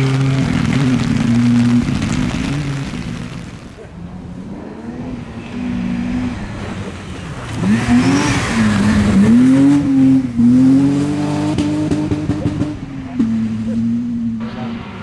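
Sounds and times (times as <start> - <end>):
rally car engine accelerating: 0.0 - 3.5, 4.4 - 15.0.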